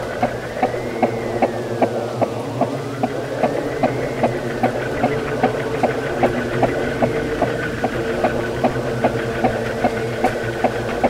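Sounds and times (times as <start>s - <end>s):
ceiling fan humming and ticking: 0.0s - 11.0s.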